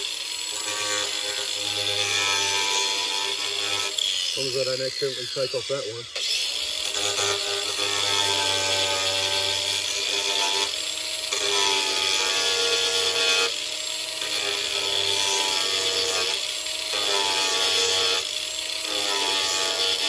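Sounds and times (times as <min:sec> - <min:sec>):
angle grinder grinding plastic: 0:00.0 - 0:20.0.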